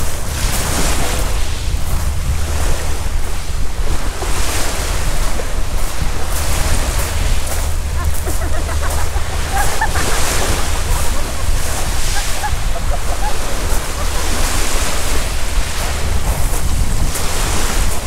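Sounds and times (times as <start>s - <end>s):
sea waves washing ashore: 0.0s - 18.0s
wind buffeting microphone: 0.0s - 18.0s.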